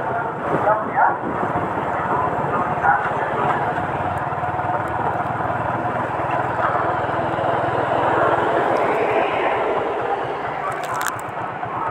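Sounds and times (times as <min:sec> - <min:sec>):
motorcycle engine running: 0:01.2 - 0:11.9.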